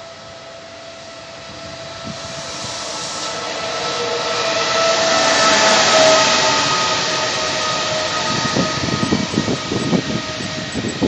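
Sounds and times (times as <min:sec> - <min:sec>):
electric traction whine: 0:00.0 - 0:11.0
wheel-on-rail noise: 0:00.0 - 0:11.0.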